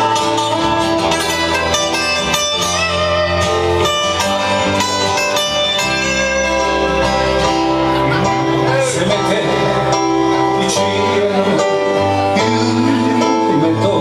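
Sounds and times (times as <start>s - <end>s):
guitar-led instrumental band music: 0.0s - 14.0s.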